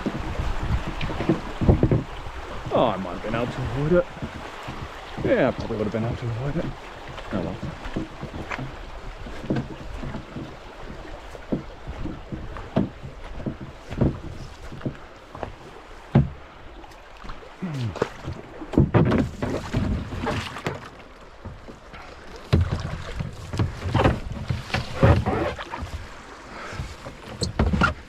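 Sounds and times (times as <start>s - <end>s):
knocks against kayak hull: 0.0s - 2.8s, 3.4s - 5.7s, 6.5s - 16.4s, 17.8s - 26.1s, 26.7s - 28.0s
paddle splashes: 0.0s - 28.0s.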